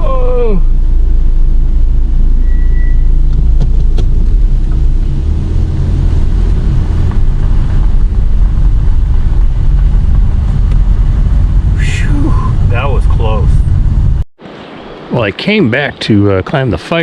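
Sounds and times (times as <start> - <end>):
car engine and road noise: 0.0 - 15.7.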